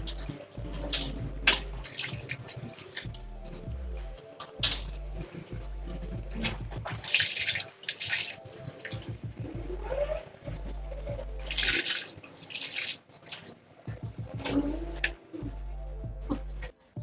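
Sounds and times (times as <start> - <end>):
water splashing: 0.0 - 16.7.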